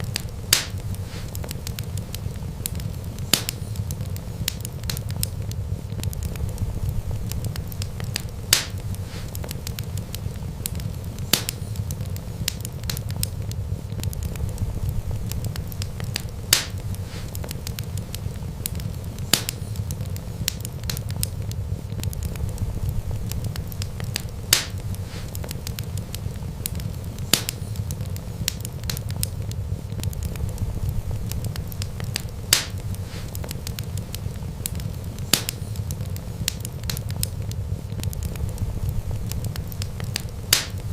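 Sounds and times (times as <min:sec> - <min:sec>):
fire crackling: 0:00.0 - 0:40.9
low rumble of flames: 0:00.0 - 0:40.9
sharp pops of fire: 0:00.0 - 0:40.9.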